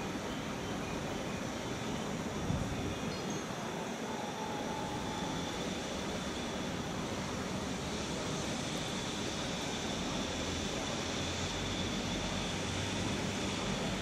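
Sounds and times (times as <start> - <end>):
electric locomotive humming: 0.0 - 14.0.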